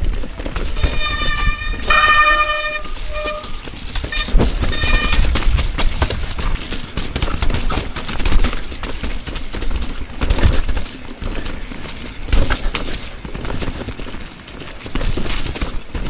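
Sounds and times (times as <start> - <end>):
bike clattering and rattling: 0.0 - 16.0
bike tyres rumbling on dirt: 0.0 - 16.0.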